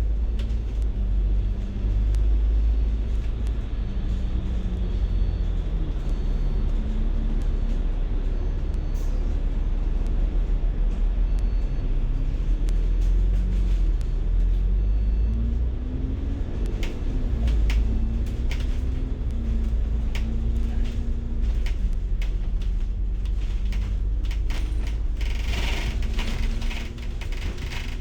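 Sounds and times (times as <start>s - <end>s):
bus engine: 0.0s - 28.0s
bus interior clicks and rattles: 0.0s - 28.0s
road rumble: 0.0s - 28.0s.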